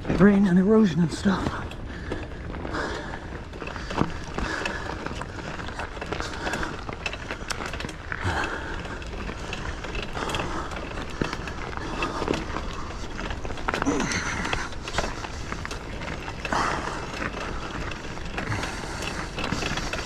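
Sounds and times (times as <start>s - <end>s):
bike clicking and rattling: 0.0s - 20.0s
bike tyres on loose dirt: 0.0s - 20.0s.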